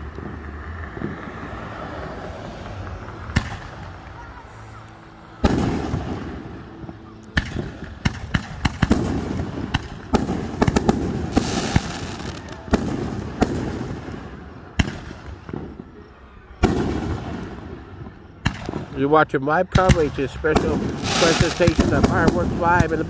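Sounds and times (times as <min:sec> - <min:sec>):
fireworks banging and cracking: 0:00.0 - 0:02.2, 0:02.8 - 0:04.4, 0:05.4 - 0:16.0, 0:16.6 - 0:19.0, 0:19.7 - 0:23.0.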